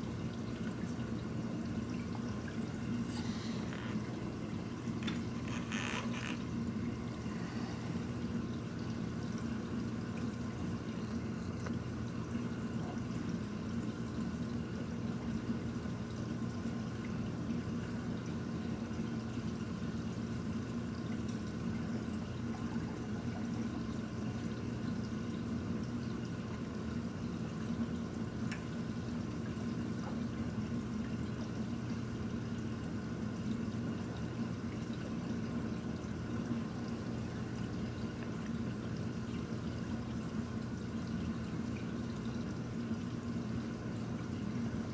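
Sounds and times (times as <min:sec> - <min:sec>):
pump hum: 0:00.0 - 0:44.9
water trickling and pouring: 0:00.0 - 0:44.9.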